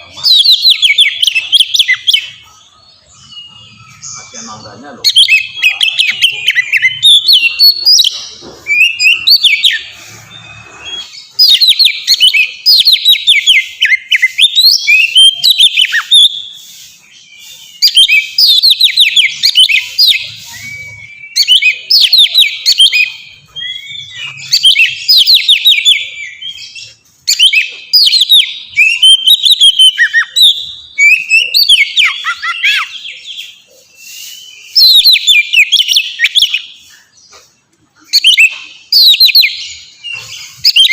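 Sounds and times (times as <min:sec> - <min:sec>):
bird singing whistled phrases: 0:00.0 - 0:37.2, 0:38.0 - 0:40.9.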